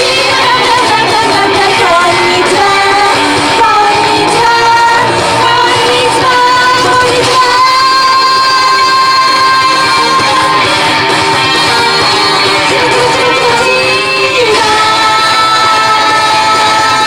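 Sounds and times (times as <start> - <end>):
women singing pop song: 0.0 - 17.0.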